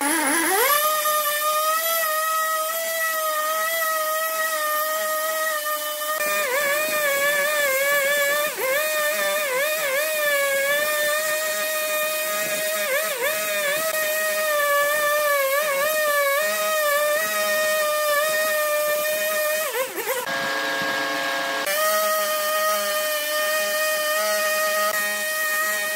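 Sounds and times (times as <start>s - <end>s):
chainsaw cutting log: 0.0s - 25.9s.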